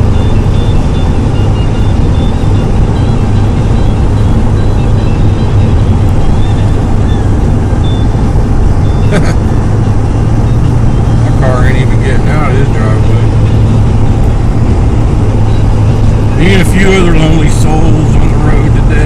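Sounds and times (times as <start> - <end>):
road noise through snow: 0.0 - 19.0
truck engine drone in cab: 0.0 - 19.0.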